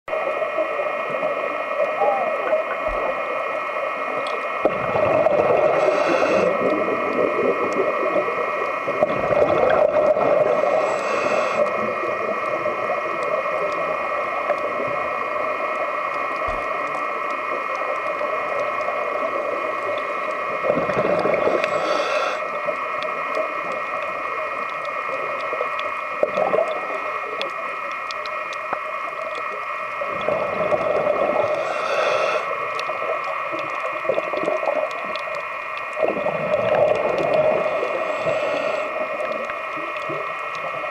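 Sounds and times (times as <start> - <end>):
scuba exhaust bubbles: 0.1 - 40.9
underwater whine: 0.1 - 40.9.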